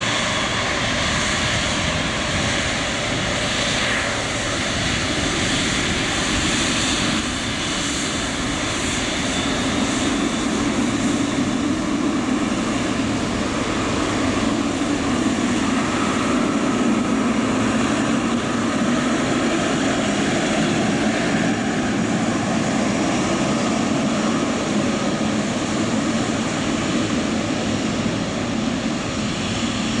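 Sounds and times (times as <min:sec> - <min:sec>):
jet engine rumble with whine: 0:00.0 - 0:30.0.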